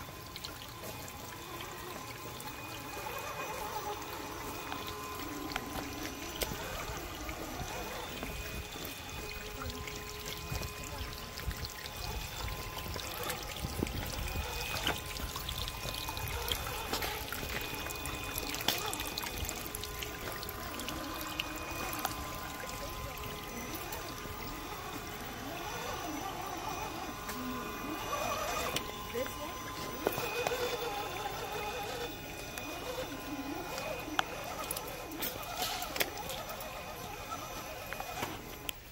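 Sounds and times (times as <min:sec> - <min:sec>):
creek water trickling and splashing: 0:00.0 - 0:38.9
faint steady whine: 0:00.0 - 0:38.9.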